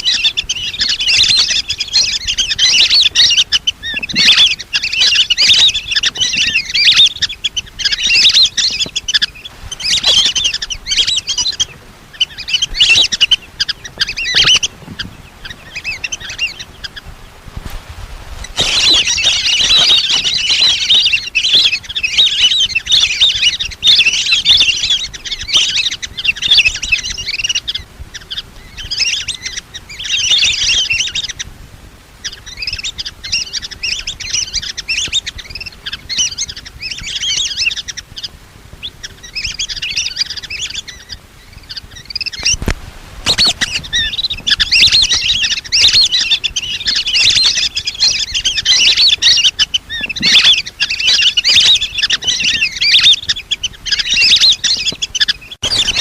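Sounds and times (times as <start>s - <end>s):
ducks whistling chatter: 0.0s - 17.4s, 18.4s - 31.5s, 32.2s - 56.0s.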